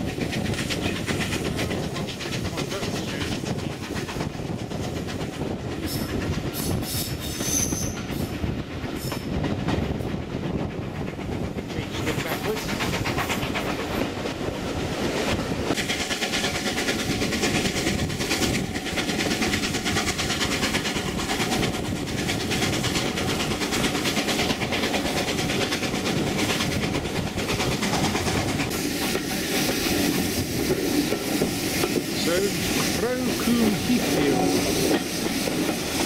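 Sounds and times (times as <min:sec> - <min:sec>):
train wheels rumbling on rails: 0:00.0 - 0:36.0
wheels clicking over rail joints: 0:00.0 - 0:36.0.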